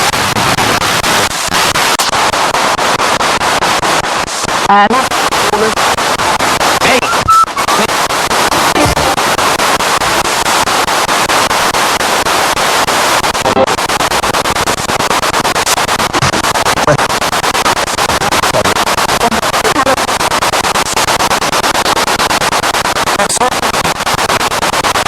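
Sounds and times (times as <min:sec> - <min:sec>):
snatches of broadcast voice: 0:00.0 - 0:22.4, 0:23.0 - 0:24.2
radio static sweeping stations: 0:00.0 - 0:25.0
snatches of broadcast music: 0:00.0 - 0:25.0.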